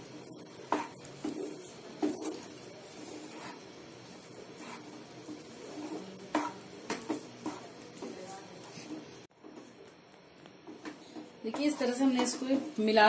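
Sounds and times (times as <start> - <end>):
wooden spatula scraping pan: 0.0 - 9.8, 10.6 - 13.0.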